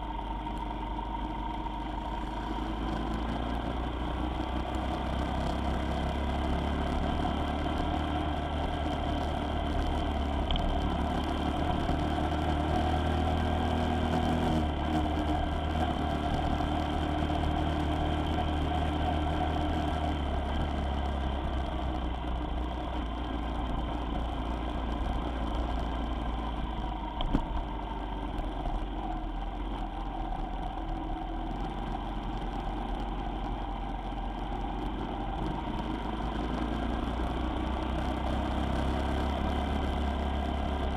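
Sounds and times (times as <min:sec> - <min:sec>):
road noise: 0:00.0 - 0:40.9
vehicle engine running: 0:00.0 - 0:40.9.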